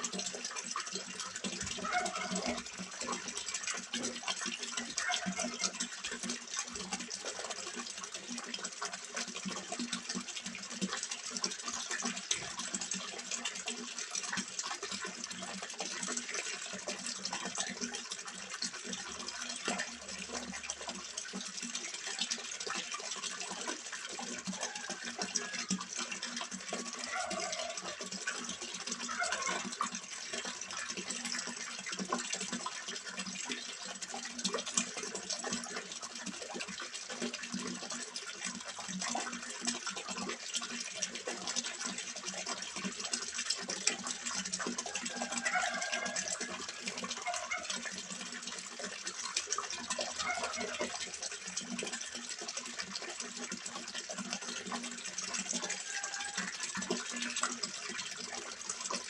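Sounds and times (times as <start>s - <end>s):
water splashing into a pond: 0.0s - 59.0s.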